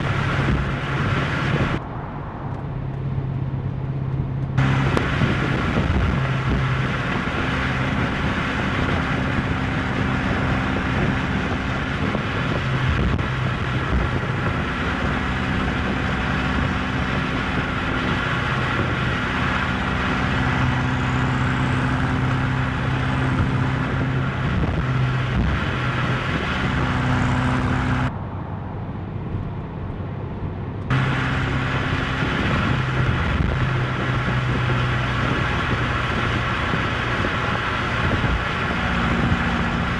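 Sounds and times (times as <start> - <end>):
car engine droning: 0.0 - 39.9
tyre and road noise: 0.0 - 39.9.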